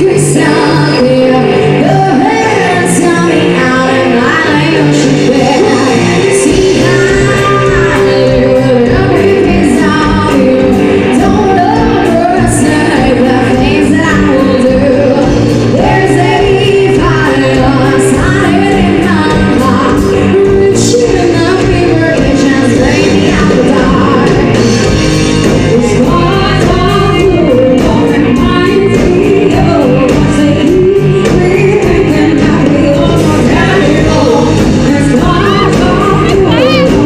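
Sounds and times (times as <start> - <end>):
lead singer singing: 0.0 - 37.0
live band playing: 0.0 - 37.0.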